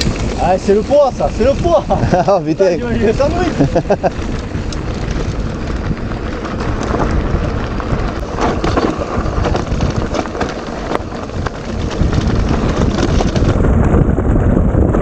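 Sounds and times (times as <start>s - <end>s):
bike rolling over stony ground: 0.0s - 15.0s
wind buffeting microphone: 0.0s - 15.0s.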